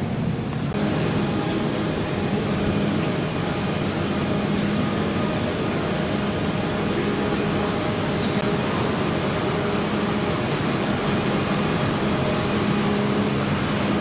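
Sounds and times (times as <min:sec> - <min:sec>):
low hum: 0:00.0 - 0:14.0
rumbling hiss of metro platform: 0:00.0 - 0:14.0.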